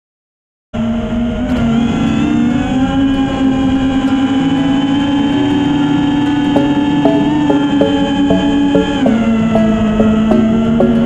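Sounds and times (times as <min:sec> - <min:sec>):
quadcopter motors buzzing: 0:00.8 - 0:11.0.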